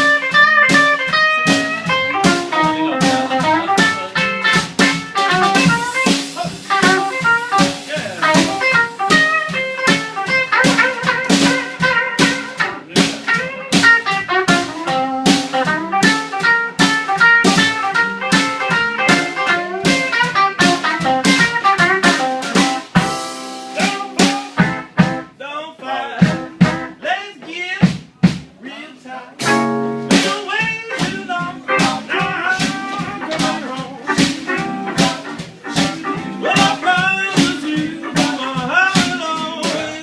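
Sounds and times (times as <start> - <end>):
drum kit beat: 0.0 - 25.4, 26.1 - 28.6, 29.3 - 40.0
electric guitar playing blues: 0.0 - 25.4, 26.1 - 27.0, 29.4 - 40.0.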